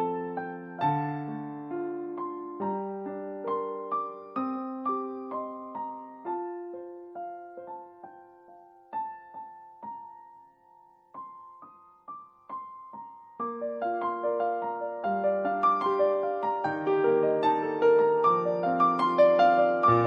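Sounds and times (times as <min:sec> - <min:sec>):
slow gentle piano melody: 0:00.0 - 0:20.0.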